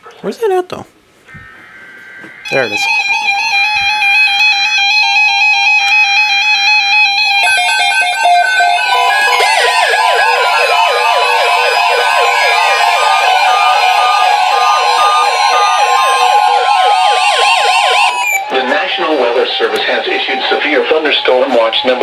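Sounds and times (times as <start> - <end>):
beeping alarm tones: 1.3 - 22.0
slow falling whistle: 1.3 - 22.0
steady alert tone: 1.3 - 22.0
warbling siren-like alarm: 1.3 - 22.0.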